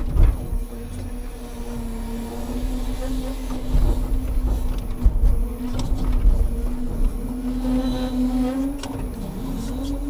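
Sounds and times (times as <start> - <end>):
crane hydraulics whine: 0.0 - 10.0
truck engine rumble: 0.0 - 10.0.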